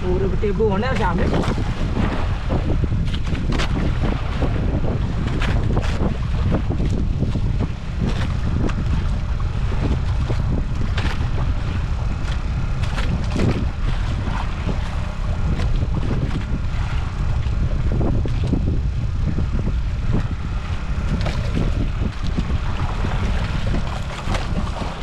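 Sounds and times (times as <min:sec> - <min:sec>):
boat engine rumble: 0:00.0 - 0:25.0
wind buffeting microphone: 0:00.0 - 0:25.0.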